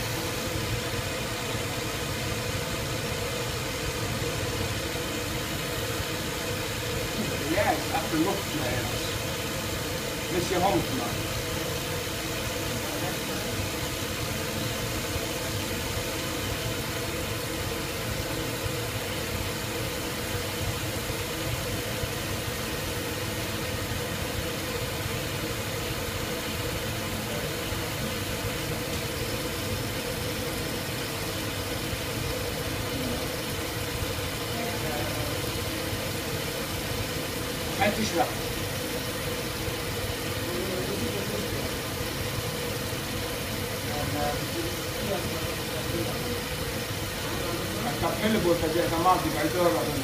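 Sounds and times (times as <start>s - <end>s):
machine motor humming: 0.0s - 50.0s.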